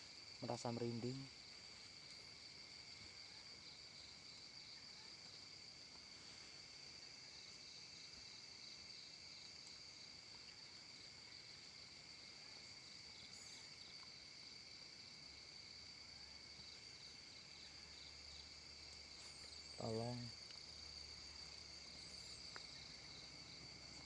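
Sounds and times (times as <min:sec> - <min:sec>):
insect chorus trilling: 0:00.0 - 0:24.0.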